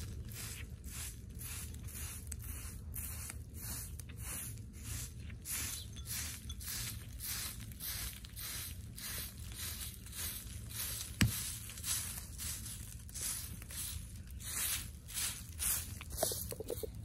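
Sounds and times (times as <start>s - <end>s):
broom sweeping dirt: 0.0s - 17.0s.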